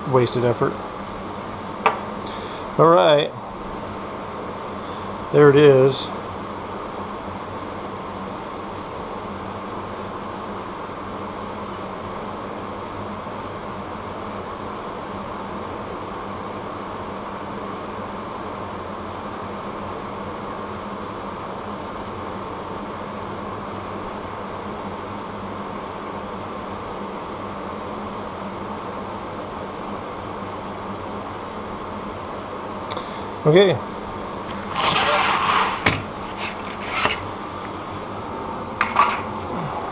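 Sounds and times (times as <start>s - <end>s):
machine hum with whooshing: 0.0s - 39.9s.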